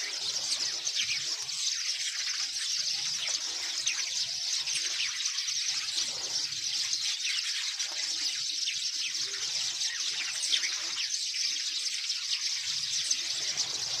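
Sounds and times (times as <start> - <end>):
flock of small birds chirping: 0.0 - 14.0.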